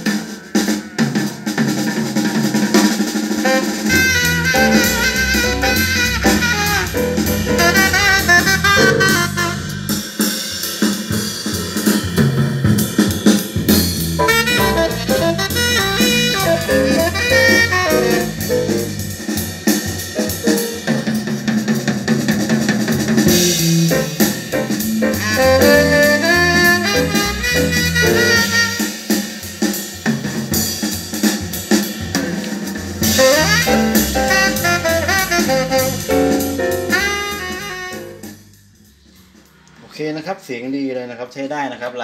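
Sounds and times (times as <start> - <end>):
music with drum kit: 0.0 - 40.0.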